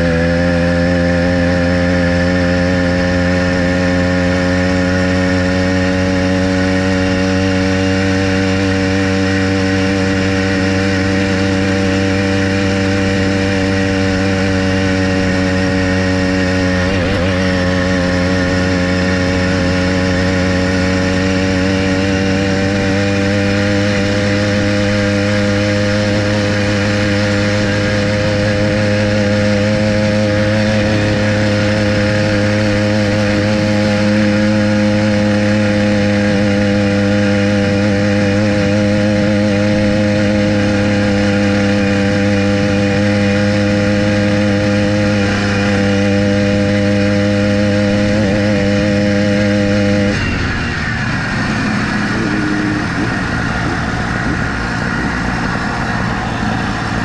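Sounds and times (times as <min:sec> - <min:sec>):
small bicycle engine droning: 0:00.0 - 0:57.0.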